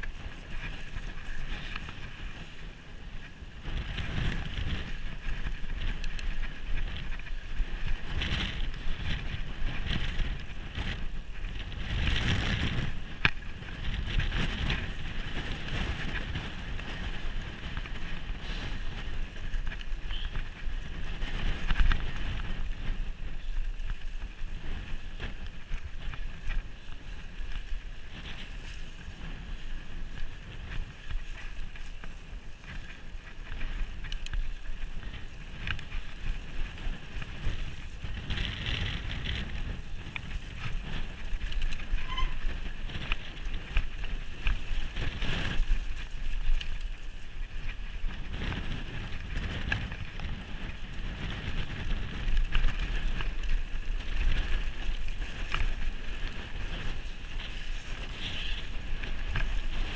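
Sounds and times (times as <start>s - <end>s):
bike tyres and rattle on trail: 0.0s - 59.9s
wind buffeting microphone: 0.0s - 59.9s.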